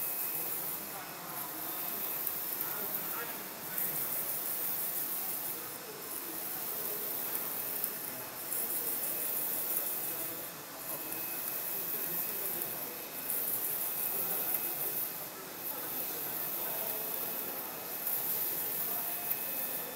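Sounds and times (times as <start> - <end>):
printer whirring hiss: 0.0 - 19.9.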